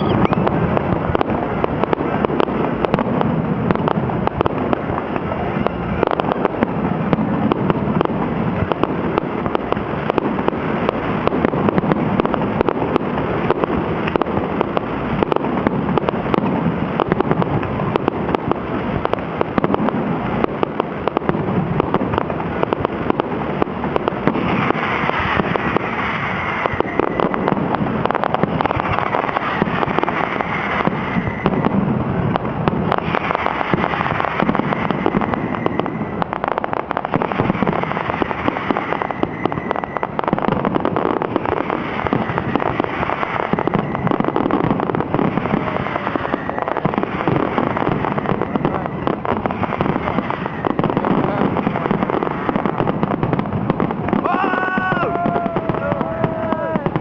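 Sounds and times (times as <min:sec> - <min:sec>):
fireworks bursting and crackling: 0:00.0 - 0:57.0
fireworks hissing: 0:00.0 - 0:57.0.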